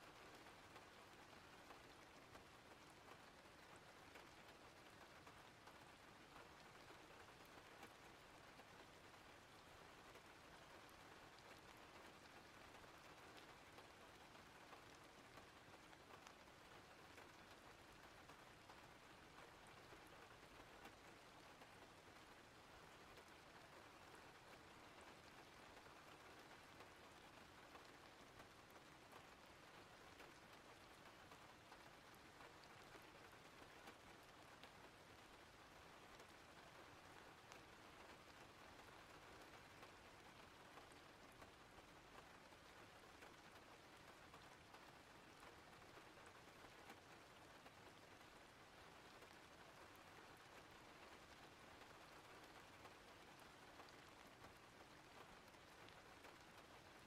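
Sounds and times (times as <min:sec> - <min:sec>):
faint steady rain: 0:00.0 - 0:57.0
raindrops ticking: 0:00.1 - 0:57.0.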